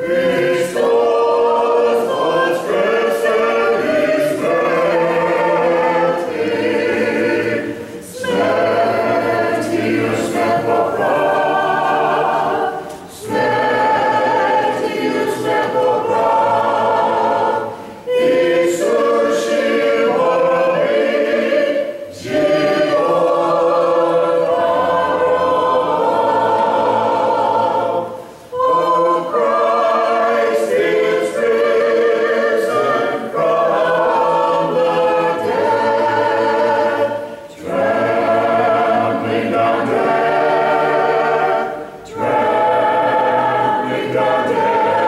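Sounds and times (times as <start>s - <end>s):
choir singing a cappella: 0.0s - 45.0s.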